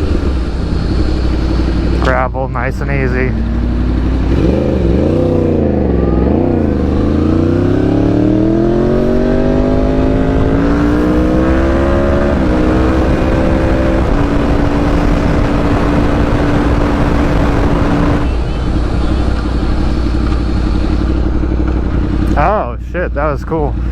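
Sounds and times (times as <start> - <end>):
sports car engine accelerating: 0.0 - 22.6.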